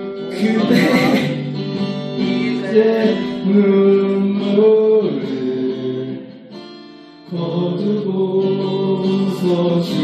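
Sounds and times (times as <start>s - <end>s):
acoustic guitar: 0.0s - 10.0s
voices singing slow song: 0.2s - 6.7s, 7.3s - 10.0s.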